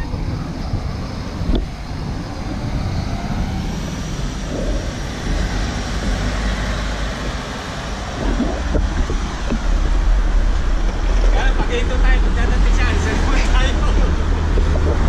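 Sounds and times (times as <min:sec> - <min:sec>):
traffic rumble: 0:00.0 - 0:15.0
tyres on road: 0:00.0 - 0:15.0
wind buffeting microphone: 0:00.0 - 0:15.0.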